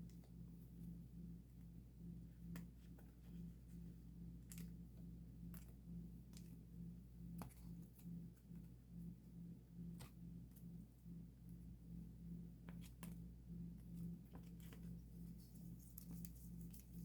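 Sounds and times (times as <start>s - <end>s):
low pulsing hum: 0.0s - 17.0s.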